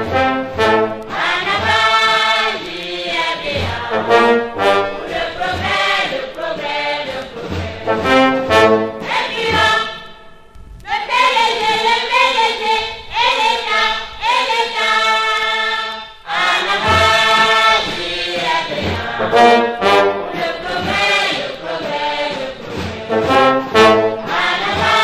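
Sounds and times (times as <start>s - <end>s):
low drumbeat: 0.0s - 12.1s, 16.3s - 25.0s
brass instruments: 0.0s - 25.0s
voices singing together: 0.0s - 25.0s.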